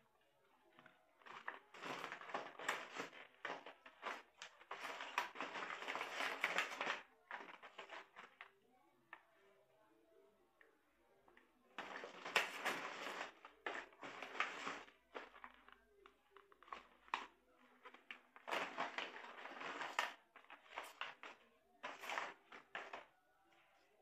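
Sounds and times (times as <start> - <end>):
plastic bag crinkling: 0.7 - 8.5, 11.8 - 24.0
plastic blister packs rustling: 0.7 - 8.5, 11.8 - 24.0.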